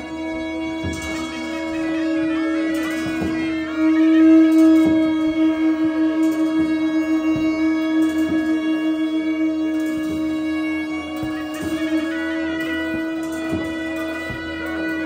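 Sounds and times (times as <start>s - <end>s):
conch shell trumpet note: 0.0s - 15.0s
high wind instrument melody: 0.0s - 15.0s.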